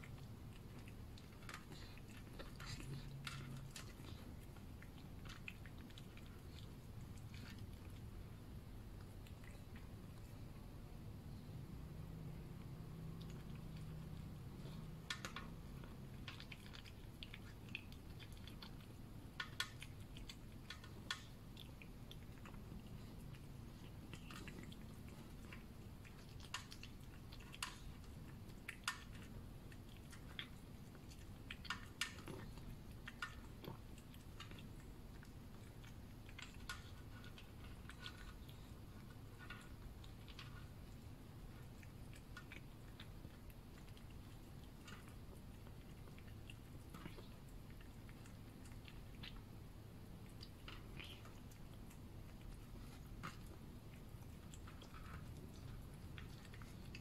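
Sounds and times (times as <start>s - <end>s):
cat chewing and smacking: 0.0s - 57.0s
steady low hum: 0.0s - 57.0s.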